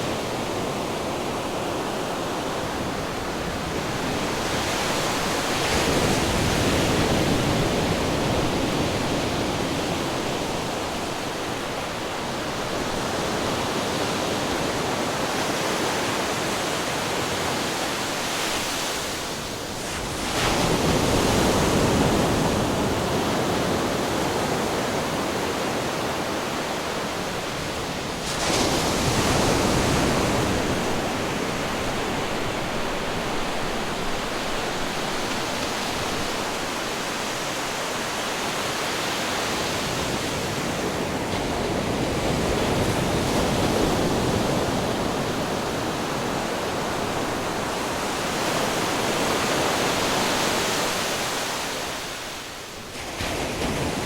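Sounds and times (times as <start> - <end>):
waves crashing against rocks: 0.0 - 24.2, 26.1 - 54.0.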